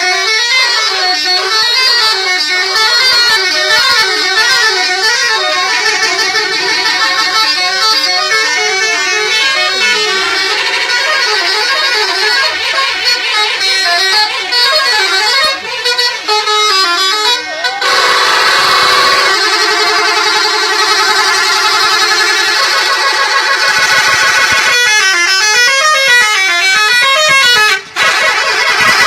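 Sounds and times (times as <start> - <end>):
multi-tone bus horns warbling melody: 0.0 - 29.0.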